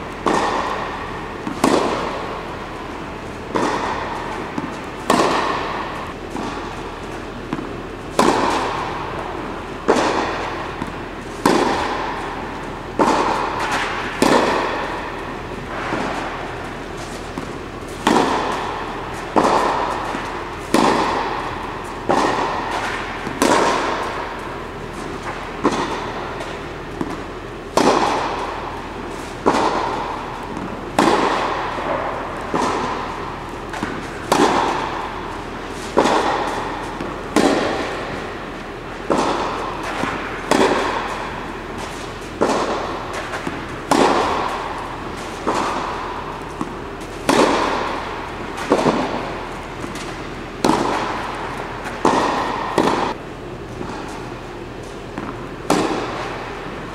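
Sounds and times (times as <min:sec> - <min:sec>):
racket striking tennis ball: 0:00.0 - 0:56.9.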